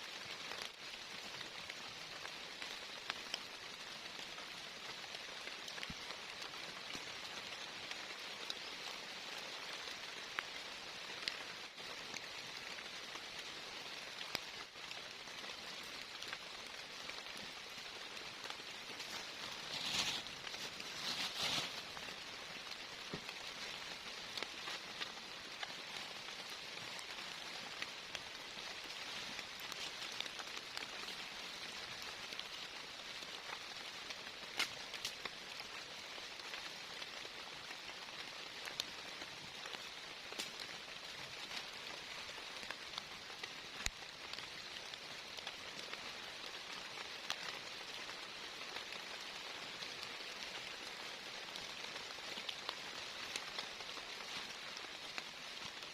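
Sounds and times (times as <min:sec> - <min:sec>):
rain falling steadily: 0:00.0 - 0:55.9.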